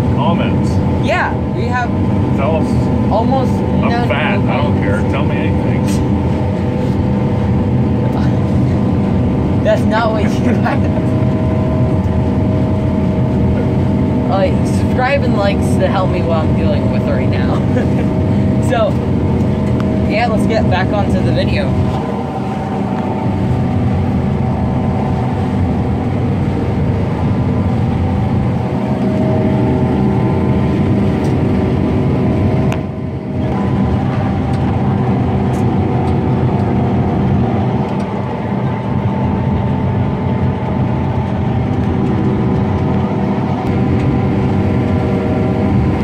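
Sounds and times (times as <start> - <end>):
combine harvester drone: 0.0 - 46.0.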